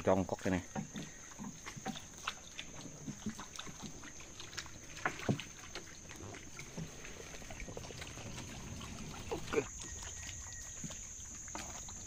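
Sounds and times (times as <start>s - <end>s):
water splashing in stream: 0.0s - 12.0s.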